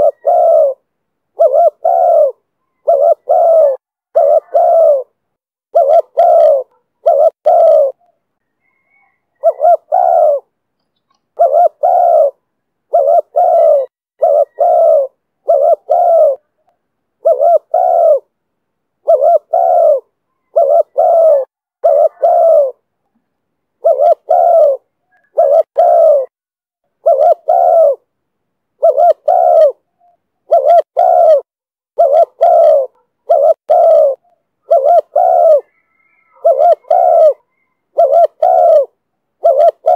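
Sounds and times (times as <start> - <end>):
dove cooing: 0.0 - 18.4, 19.0 - 22.9, 23.8 - 26.3, 27.0 - 28.1, 28.8 - 39.9.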